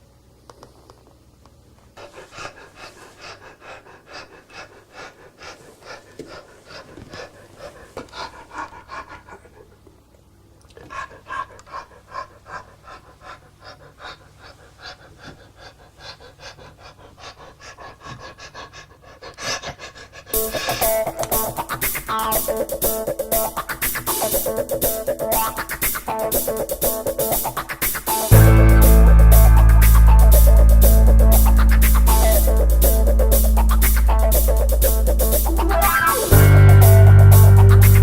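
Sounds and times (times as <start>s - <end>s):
person panting heavily: 2.0s - 9.6s, 10.9s - 27.6s, 28.2s - 38.0s.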